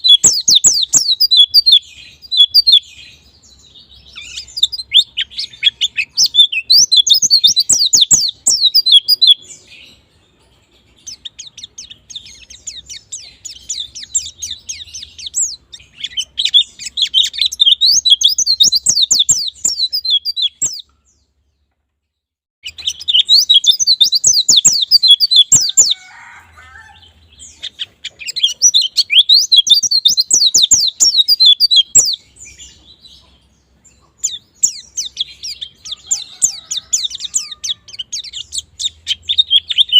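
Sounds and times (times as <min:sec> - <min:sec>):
birds twittering: 0:00.0 - 0:21.8, 0:22.6 - 0:39.9.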